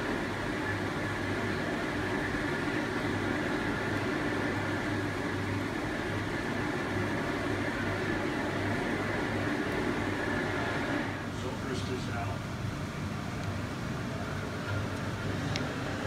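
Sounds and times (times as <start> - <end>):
electric fan whirring: 0.0 - 16.0.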